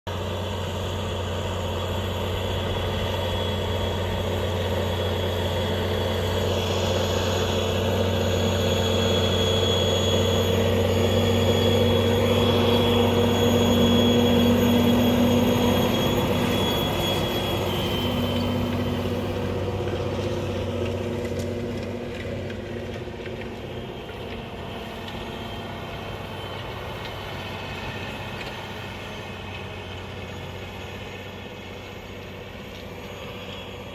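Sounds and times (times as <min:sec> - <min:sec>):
tractor engine working: 0:00.1 - 0:33.9.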